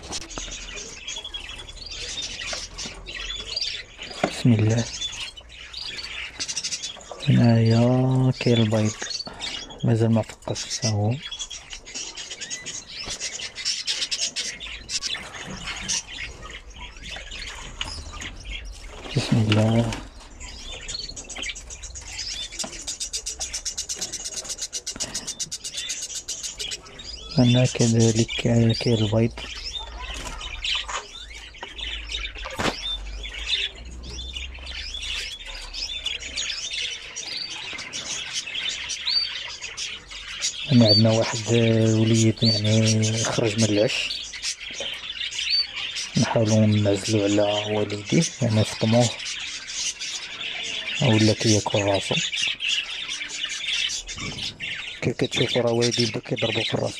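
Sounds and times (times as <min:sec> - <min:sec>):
budgerigars chattering: 0:00.0 - 0:56.9.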